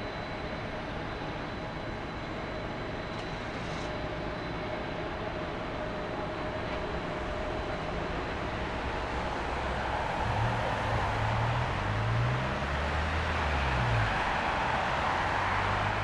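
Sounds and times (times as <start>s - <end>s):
distant jet engines rushing: 0.1s - 16.0s.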